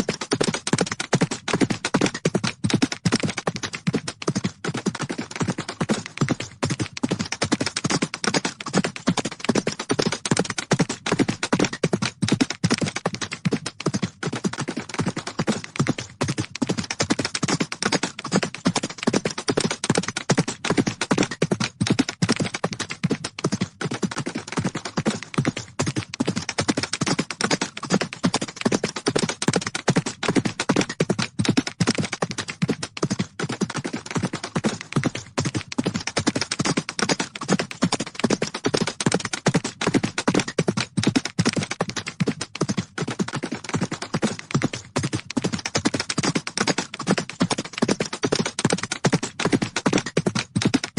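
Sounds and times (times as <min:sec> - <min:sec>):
horse hooves galloping: 0:00.0 - 0:50.9.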